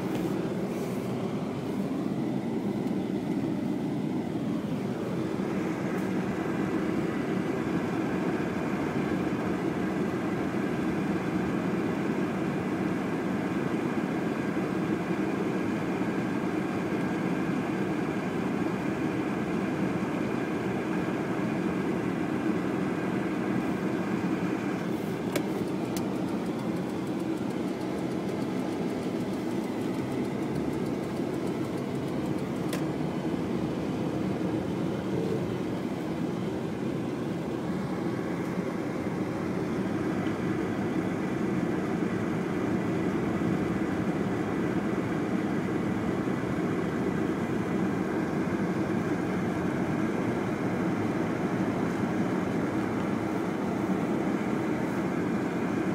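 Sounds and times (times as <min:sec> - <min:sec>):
car engine drone: 0:00.0 - 0:55.9.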